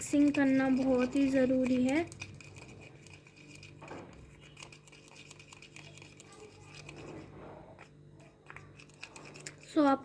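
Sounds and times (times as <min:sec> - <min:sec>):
slime being stirred: 0:00.0 - 0:10.0.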